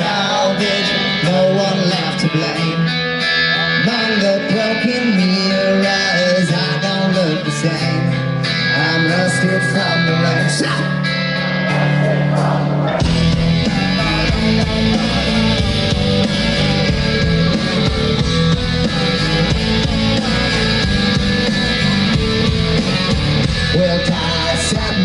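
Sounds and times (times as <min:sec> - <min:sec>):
rock band playing: 0:00.0 - 0:25.0.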